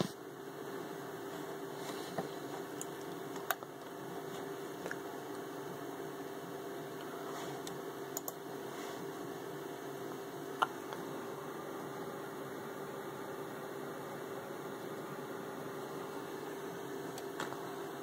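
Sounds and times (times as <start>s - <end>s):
computer humming: 0.0s - 18.0s.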